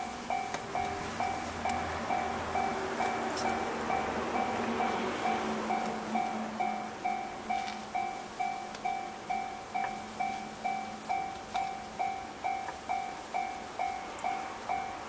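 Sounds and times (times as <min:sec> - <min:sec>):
faint electric train running: 0:00.0 - 0:15.0
level crossing bell ringing: 0:00.0 - 0:15.0.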